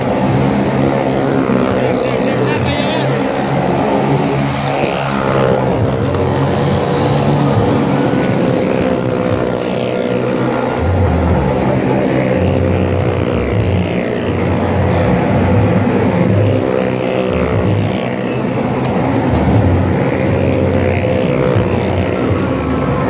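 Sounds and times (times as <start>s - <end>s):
car and motorcycle engines revving: 0.0s - 23.0s.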